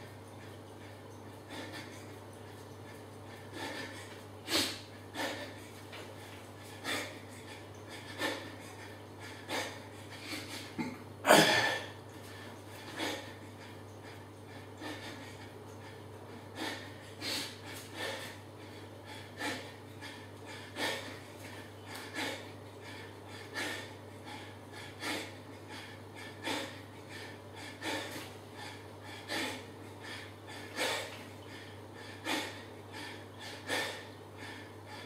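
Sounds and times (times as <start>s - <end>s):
low steady hum: 0.0s - 35.0s
man breathing hard: 0.4s - 35.0s.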